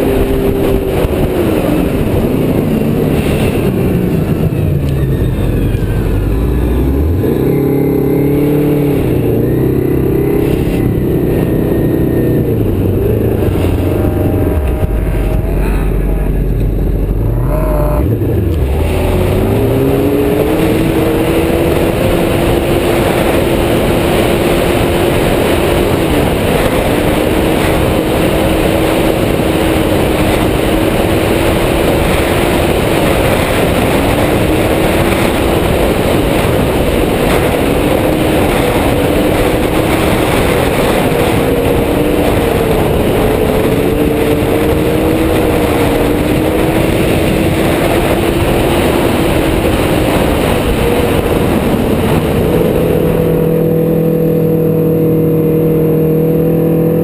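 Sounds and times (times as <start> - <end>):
snowmobile engine running: 0.0 - 57.0
wind on microphone: 0.0 - 57.0.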